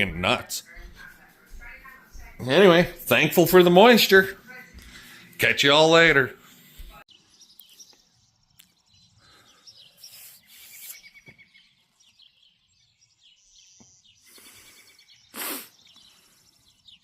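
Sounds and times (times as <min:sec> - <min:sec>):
faint outdoor background noise: 0:00.0 - 0:17.0
songbirds chirping and singing: 0:00.0 - 0:17.0.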